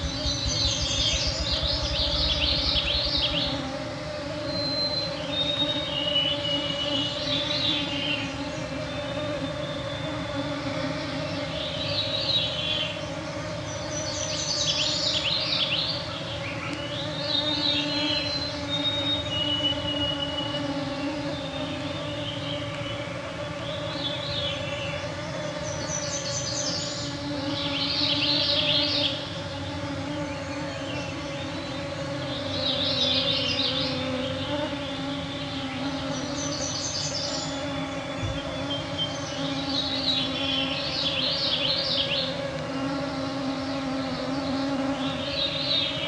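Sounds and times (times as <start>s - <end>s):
mosquitoes whining: 0.0s - 46.0s
songbird singing: 0.0s - 46.0s.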